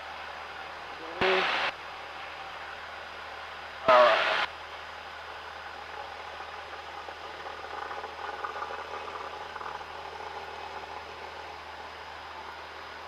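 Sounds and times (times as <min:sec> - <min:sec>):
light aircraft engine drone in cabin: 0:00.0 - 0:13.0.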